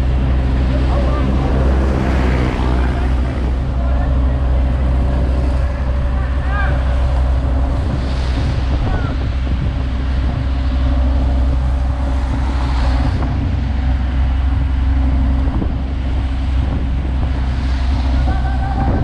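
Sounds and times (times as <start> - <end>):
diesel construction machinery running: 0.0 - 19.0.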